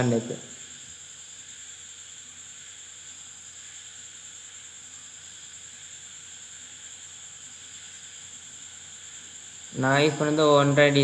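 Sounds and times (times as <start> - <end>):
faint hiss: 0.0 - 11.0
high-pitched whine: 0.0 - 11.0.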